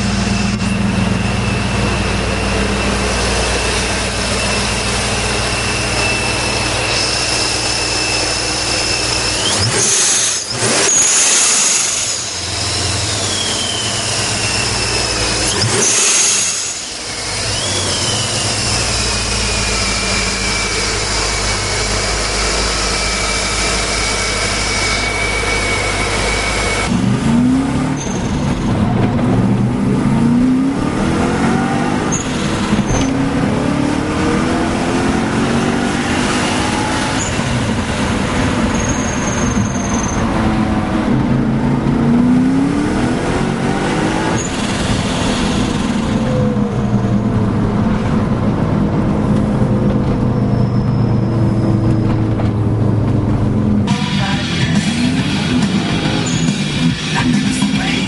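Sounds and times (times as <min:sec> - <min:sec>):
car engine idling and revving: 0:00.0 - 0:58.0
engine accelerating from inside car: 0:00.0 - 0:58.0
supercharger whine: 0:00.0 - 0:58.0.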